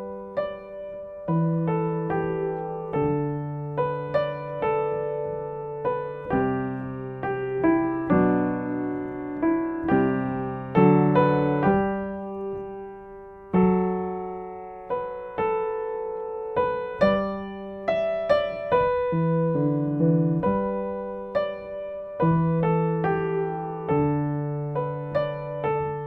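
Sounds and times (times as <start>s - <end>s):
slow piano piece: 0.0s - 26.0s.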